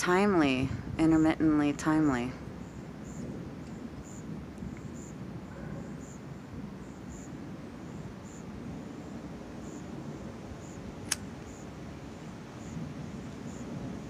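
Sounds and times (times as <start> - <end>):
low background noise: 0.0 - 14.0
night insects chirping: 2.4 - 14.0.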